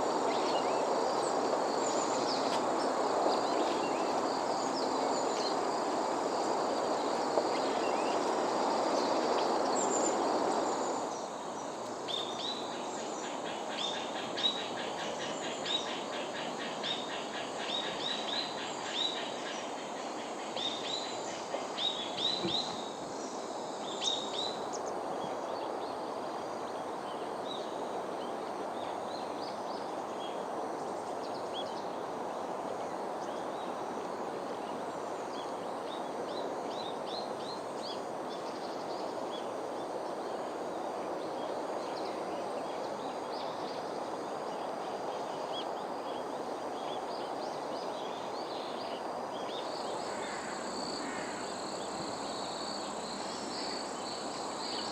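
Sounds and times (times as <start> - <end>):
steady rushing background noise: 0.0 - 54.9.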